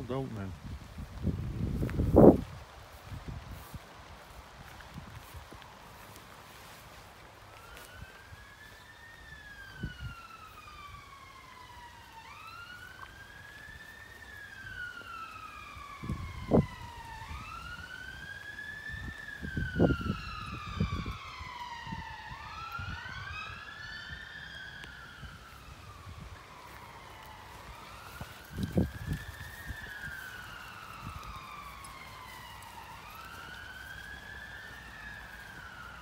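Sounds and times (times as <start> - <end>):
emergency siren wailing: 0.1 - 36.0.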